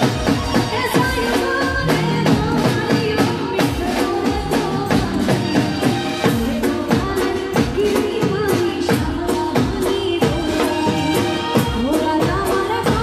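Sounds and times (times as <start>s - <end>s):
fast drum beat: 0.0s - 13.0s
folk band playing: 0.0s - 13.0s.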